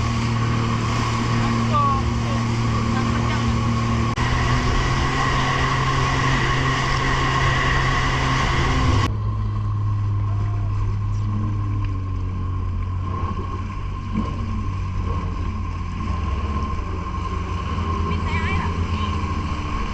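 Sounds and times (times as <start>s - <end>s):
wind noise: 0.0s - 18.4s
boat engine running: 0.0s - 19.9s
rushing water: 0.0s - 19.9s.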